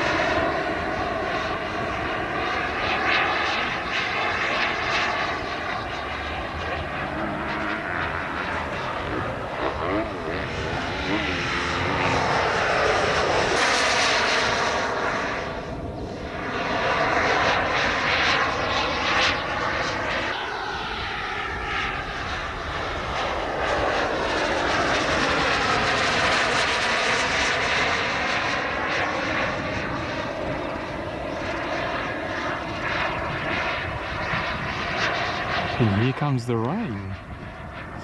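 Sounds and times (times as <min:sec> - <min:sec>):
model jet turbine engine: 0:00.0 - 0:38.0.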